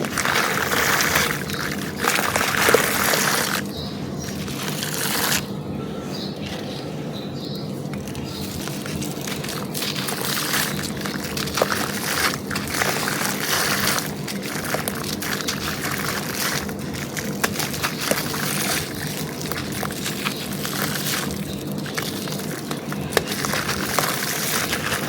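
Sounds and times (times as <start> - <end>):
dry material crunching by hand: 0.0 - 5.6, 7.6 - 25.0.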